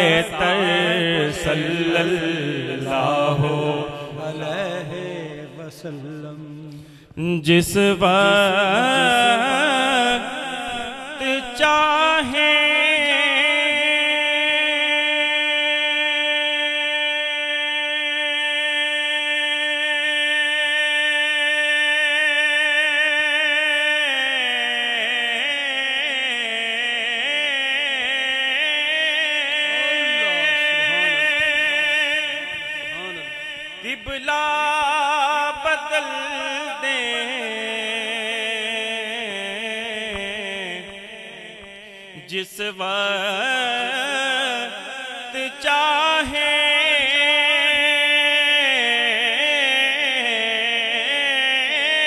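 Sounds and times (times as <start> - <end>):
man singing into a microphone: 0.0 - 52.0.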